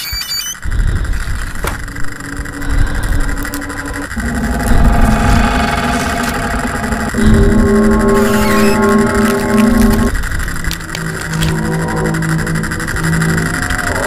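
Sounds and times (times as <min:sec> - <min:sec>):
low rumble: 0:00.6 - 0:14.0
clashing held tones: 0:01.8 - 0:14.0.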